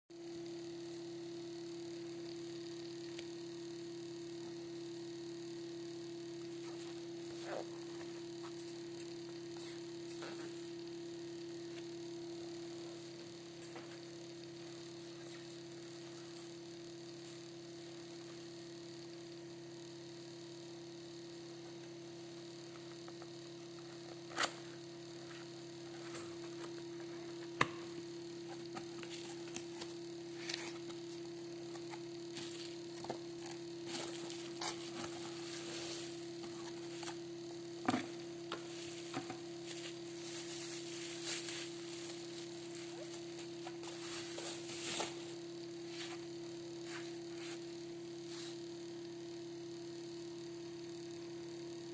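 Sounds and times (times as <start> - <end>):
low electrical hum: 0.1 - 51.9.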